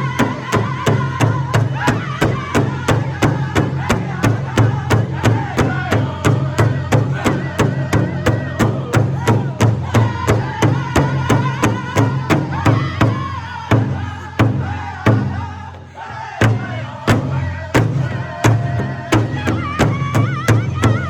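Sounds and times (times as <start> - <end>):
drum group singing: 0.0 - 21.0
large drum steady beat: 0.0 - 21.0.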